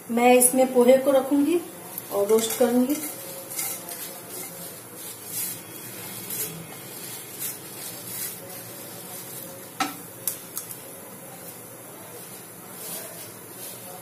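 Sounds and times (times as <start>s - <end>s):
rice flakes rustling into pan: 1.4s - 14.0s.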